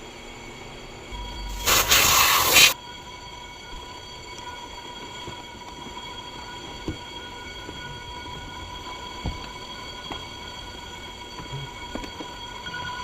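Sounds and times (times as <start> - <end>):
steady mechanical whine: 0.0 - 13.0.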